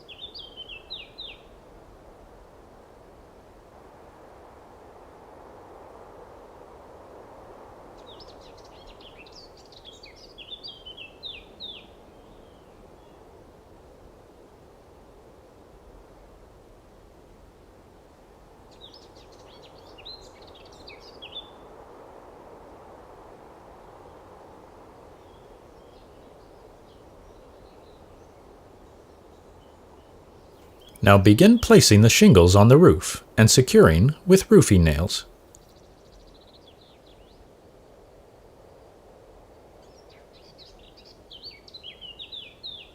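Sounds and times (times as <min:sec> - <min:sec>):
outdoor background noise: 0:00.0 - 0:42.9.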